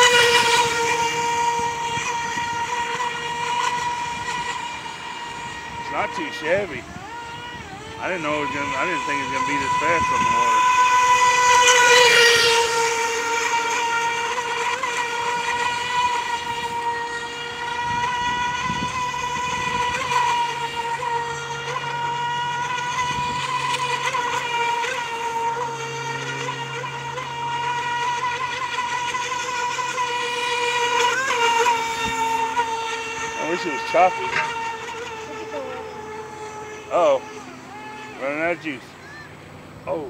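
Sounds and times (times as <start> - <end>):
rc boat motor whine: 0.0 - 40.0.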